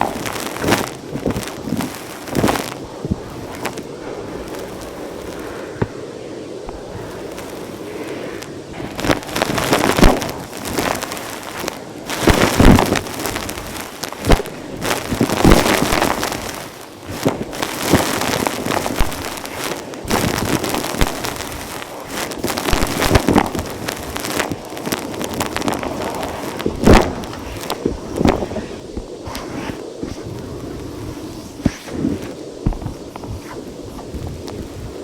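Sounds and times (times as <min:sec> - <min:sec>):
debris crunching in hose: 0:00.0 - 0:35.0.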